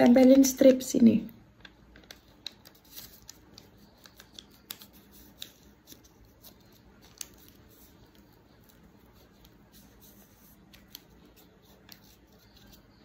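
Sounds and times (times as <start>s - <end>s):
soft fingertip clicks and rustles: 1.5s - 13.0s.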